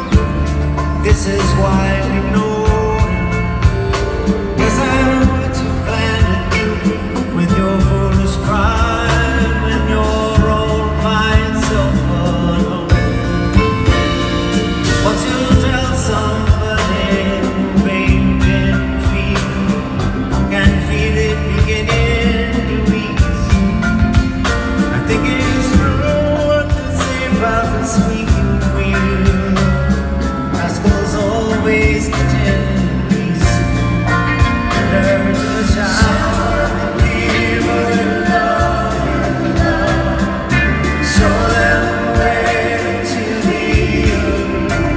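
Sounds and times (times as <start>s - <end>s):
acoustic guitar: 0.0s - 44.9s
bass guitar: 0.0s - 44.9s
drum kit beat: 0.0s - 44.9s
person singing: 0.0s - 44.9s.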